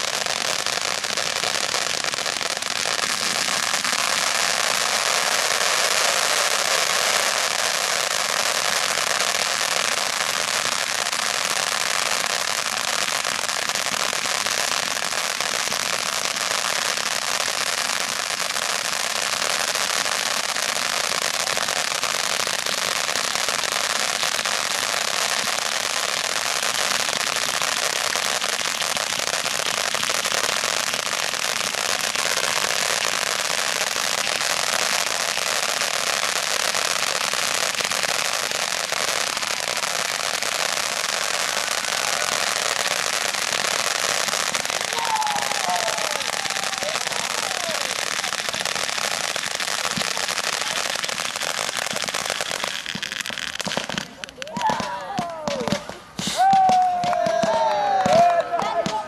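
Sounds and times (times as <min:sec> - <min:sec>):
fireworks fountains hissing and crackling: 0:00.0 - 0:59.0.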